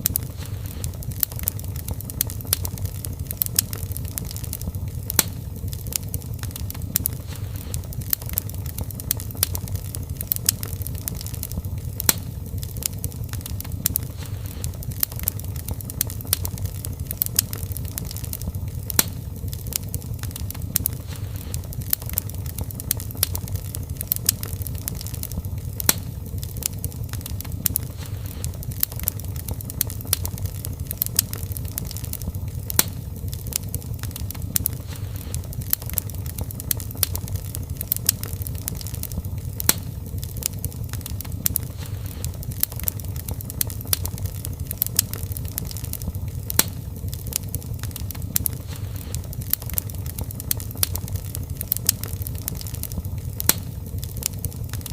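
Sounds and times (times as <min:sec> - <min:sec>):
low rumble of flames: 0:00.0 - 0:54.9
sharp pops of fire: 0:00.0 - 0:54.9
wood fire crackling: 0:00.0 - 0:54.9.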